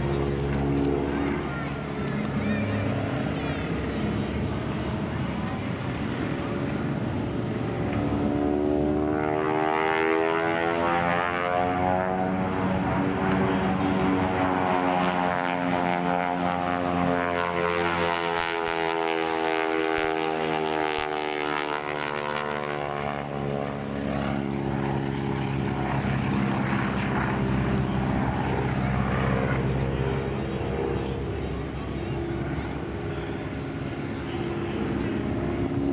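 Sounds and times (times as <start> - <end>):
propeller plane droning overhead: 0.0 - 35.9.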